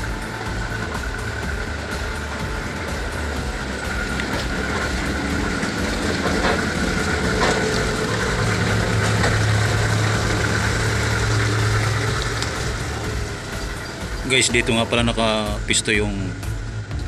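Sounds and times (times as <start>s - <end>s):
low hum: 0.0s - 17.0s
vehicle engine idling: 0.0s - 17.0s.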